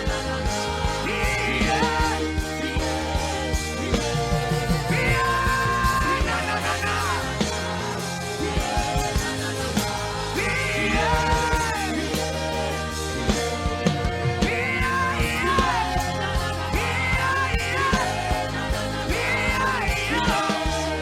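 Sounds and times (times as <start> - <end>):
person singing with slides: 0.0 - 21.0
steady bass: 0.0 - 21.0
drum beat: 0.8 - 21.0.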